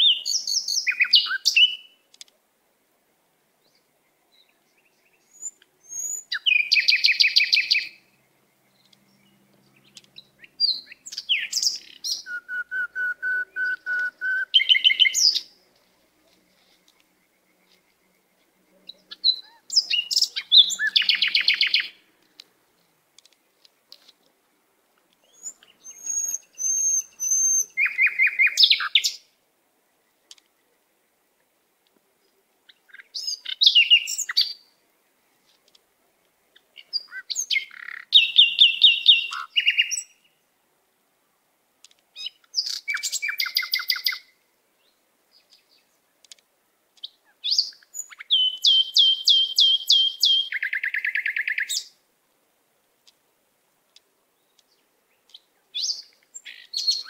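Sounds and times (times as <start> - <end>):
songbird chirping and trilling: 0.0 - 2.4, 3.4 - 24.2, 25.0 - 31.3, 32.1 - 40.5, 41.8 - 46.4, 47.0 - 52.1, 53.9 - 57.0.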